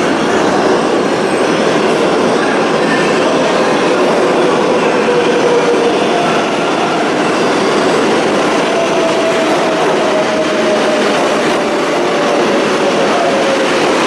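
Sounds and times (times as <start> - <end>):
subway train wheels rumbling: 0.0 - 14.0
train whine: 0.0 - 14.0.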